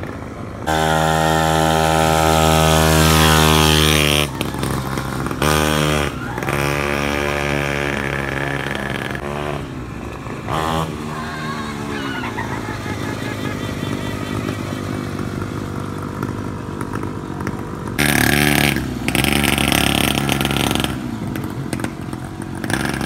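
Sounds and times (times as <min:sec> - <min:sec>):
mini atv engine revving: 0:00.0 - 0:23.0.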